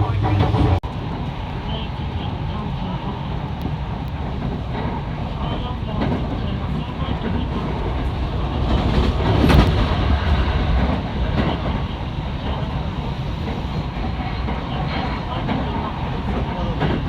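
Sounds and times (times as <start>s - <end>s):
train clatter: 0.0s - 17.0s
train wheels rumbling on rails: 0.0s - 17.0s.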